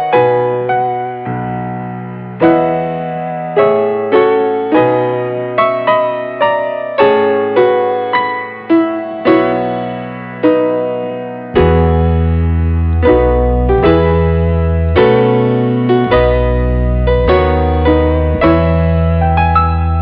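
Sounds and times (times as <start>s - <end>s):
gentle solo piano: 0.0s - 20.0s.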